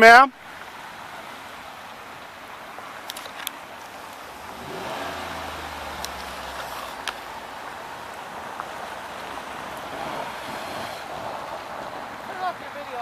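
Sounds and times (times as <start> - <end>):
road rumble: 0.0 - 13.0
vehicle engine hum: 0.4 - 13.0.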